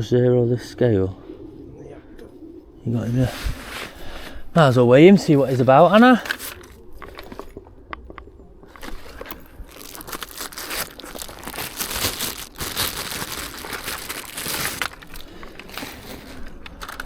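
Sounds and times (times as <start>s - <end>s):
crinkly rustling and crackling: 3.2s - 17.0s.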